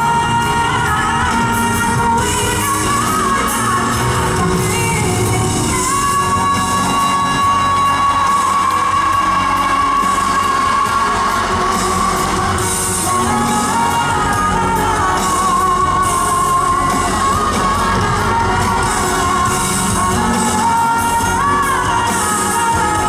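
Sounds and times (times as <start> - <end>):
live band playing: 0.0 - 23.0
woman singing pop: 0.0 - 23.0.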